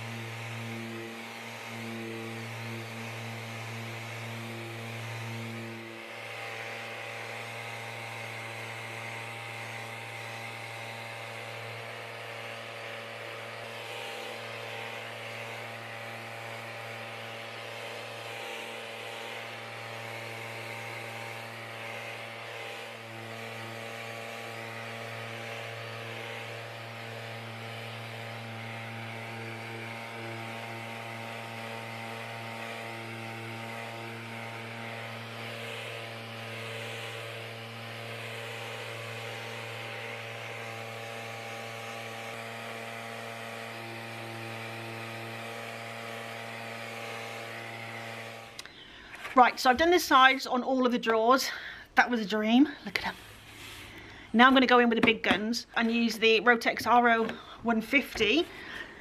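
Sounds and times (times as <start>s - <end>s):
sander running on wood: 0.0s - 59.0s.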